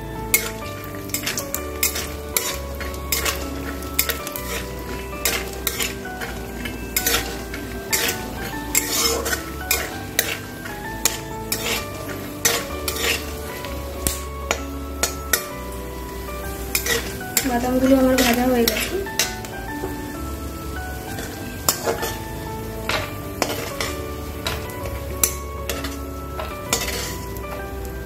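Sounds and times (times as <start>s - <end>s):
nuts sizzling in oil: 0.0s - 28.0s
metal spatula scraping pan: 0.2s - 20.0s, 20.9s - 27.9s.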